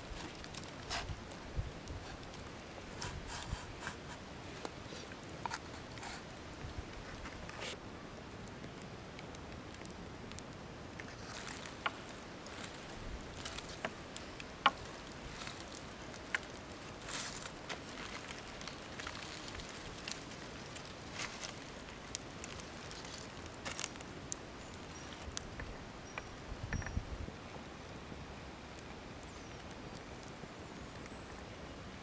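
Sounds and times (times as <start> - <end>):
campfire embers crackling: 0.0 - 32.0
faint steady hiss: 0.0 - 32.0.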